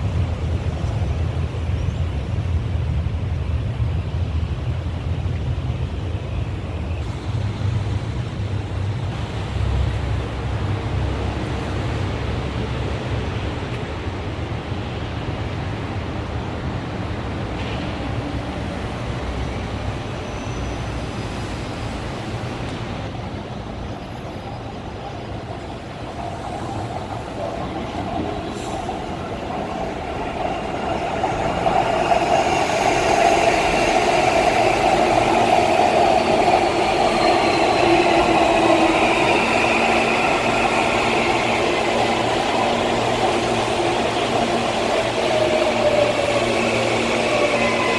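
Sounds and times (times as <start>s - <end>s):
train wheel and rail noise: 0.0s - 47.9s.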